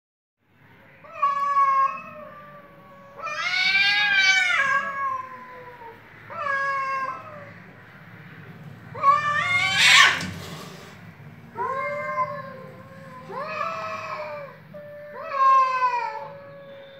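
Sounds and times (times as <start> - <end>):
cats yowling: 1.0 - 7.8, 8.8 - 16.9.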